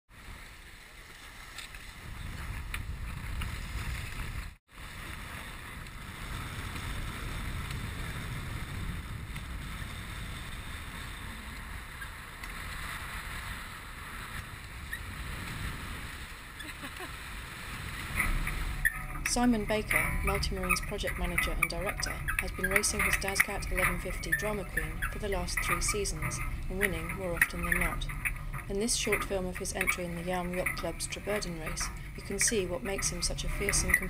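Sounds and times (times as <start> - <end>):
water rushing along hulls: 0.2 - 34.0
wind buffeting microphone: 1.7 - 34.0.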